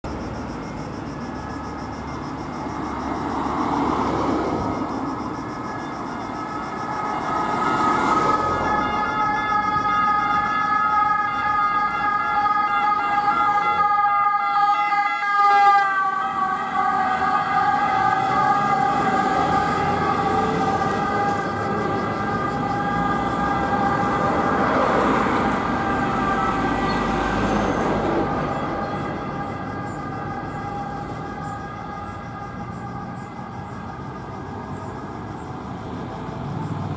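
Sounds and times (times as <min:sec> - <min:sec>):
vehicle engine and road noise: 0:00.0 - 0:36.9
ambulance siren passing: 0:00.1 - 0:36.5.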